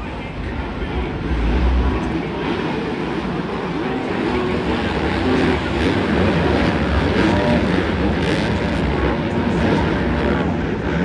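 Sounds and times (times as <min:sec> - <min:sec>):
dirt bike engines revving: 0:00.1 - 0:11.0.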